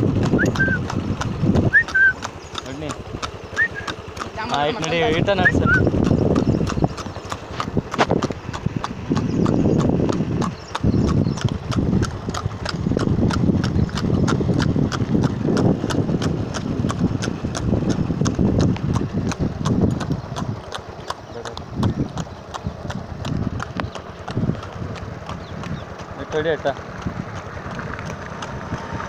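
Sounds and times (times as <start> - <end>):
horse hooves clip-clopping on asphalt: 0.0 - 29.0
low rumble: 0.0 - 29.0.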